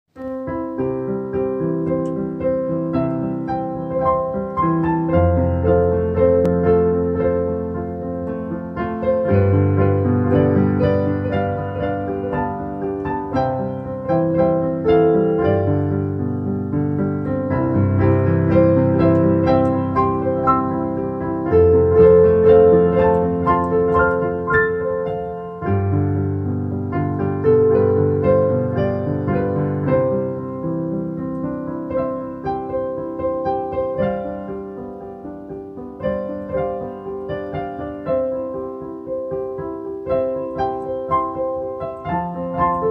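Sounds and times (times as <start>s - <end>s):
solo piano music: 0.1s - 42.9s.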